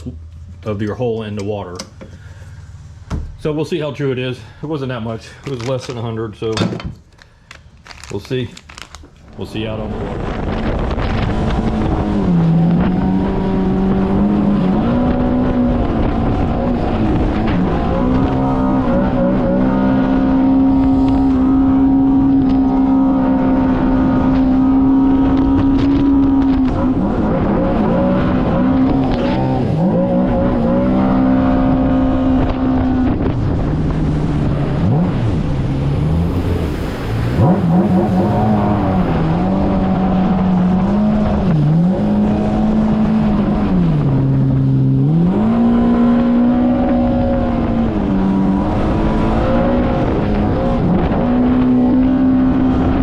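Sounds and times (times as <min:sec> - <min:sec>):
watercraft engine revving: 0:08.7 - 0:53.0.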